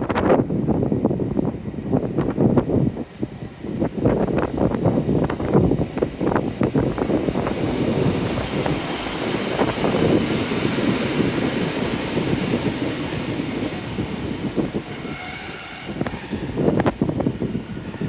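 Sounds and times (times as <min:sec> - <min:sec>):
diesel train running: 0:00.0 - 0:18.0
wind buffeting microphone: 0:00.0 - 0:18.0.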